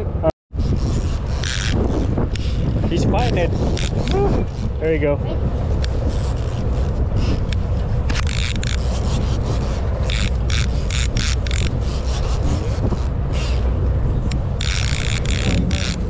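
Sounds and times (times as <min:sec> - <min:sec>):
steady low rumble: 0:00.0 - 0:16.0
fishing reel gears rasping: 0:00.6 - 0:16.0.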